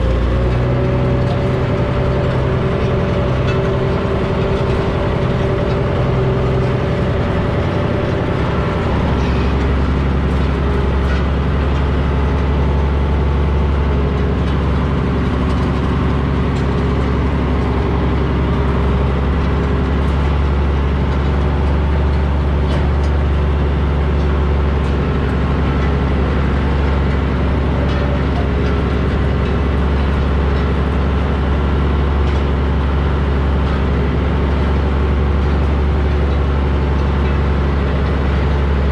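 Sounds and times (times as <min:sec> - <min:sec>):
heavy truck engine under load: 0:00.0 - 0:38.9.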